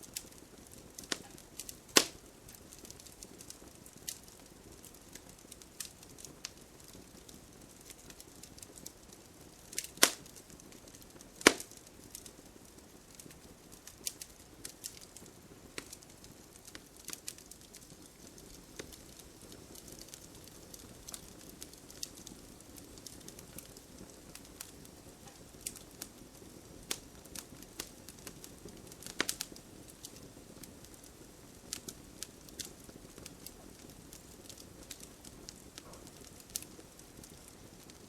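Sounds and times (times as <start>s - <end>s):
campfire flames rushing: 0.0s - 38.0s
fire crackling and popping: 0.0s - 38.0s.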